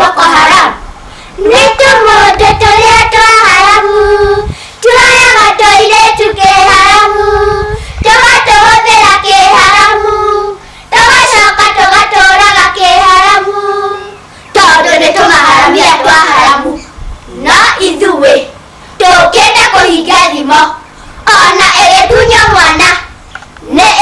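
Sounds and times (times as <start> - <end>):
children singing: 0.0 - 0.8, 1.4 - 23.1.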